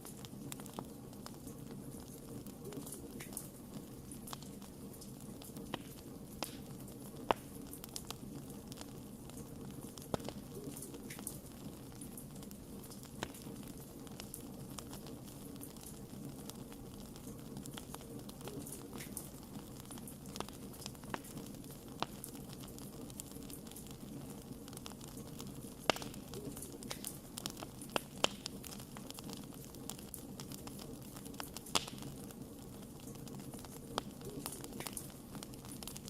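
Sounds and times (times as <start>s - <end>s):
low rumble of flame: 0.0s - 36.0s
wood fire crackling and popping: 0.0s - 36.0s.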